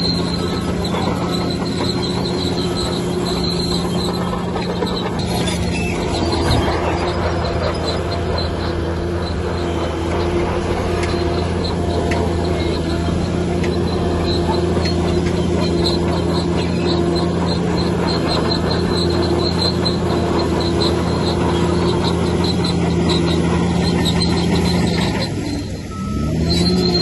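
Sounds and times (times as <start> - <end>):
heavy diesel machine running: 0.0 - 27.0
high metallic squeaks: 0.0 - 27.0.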